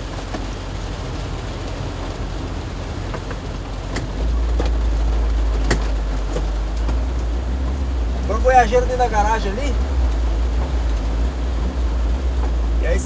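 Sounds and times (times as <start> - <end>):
drips ticking on car body: 0.0 - 13.0
heavy rain on car roof: 0.0 - 13.0
steady low rumble: 0.0 - 13.0.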